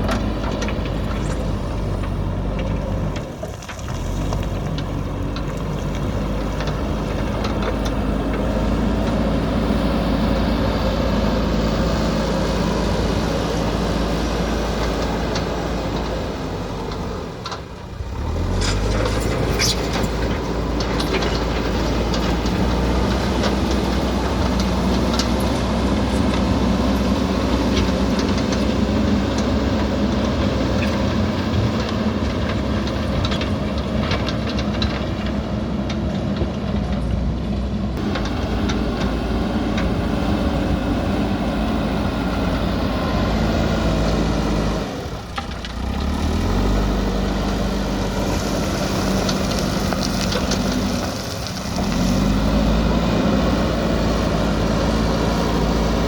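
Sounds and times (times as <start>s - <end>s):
clanks and rattles: 0.0s - 56.0s
diesel engine running: 0.0s - 56.0s.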